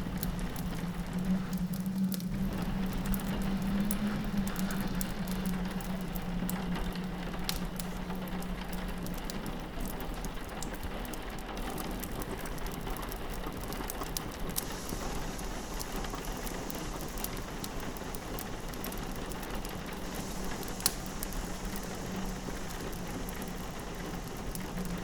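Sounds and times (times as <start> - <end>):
rain pattering on a window: 0.0 - 25.0
wood fire crackling: 0.0 - 25.0.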